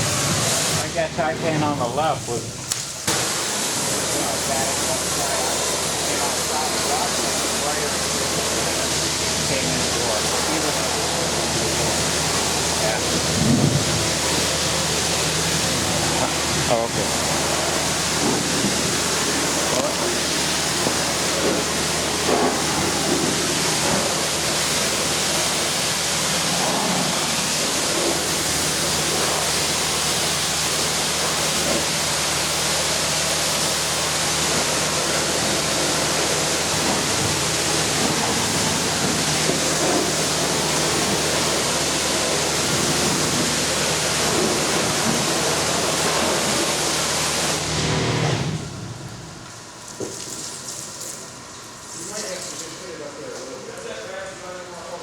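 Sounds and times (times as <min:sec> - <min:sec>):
pressure washer spraying: 0:00.0 - 0:53.1.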